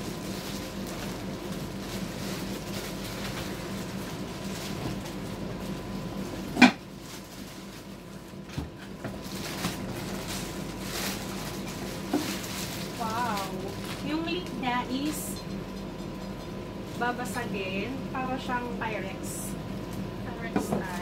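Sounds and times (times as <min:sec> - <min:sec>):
plastic wrapping crinkling: 0:00.0 - 0:17.5, 0:19.9 - 0:21.0.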